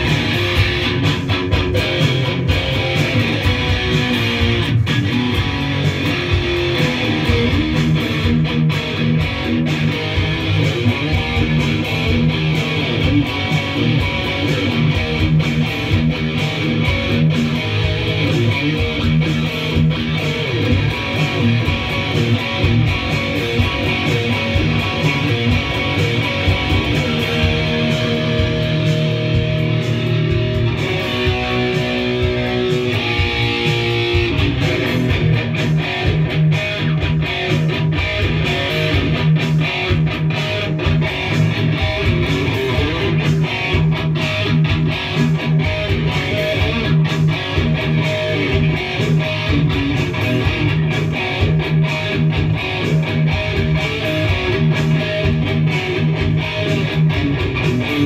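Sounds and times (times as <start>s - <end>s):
electric guitar heavy metal riff: 0.0s - 58.0s.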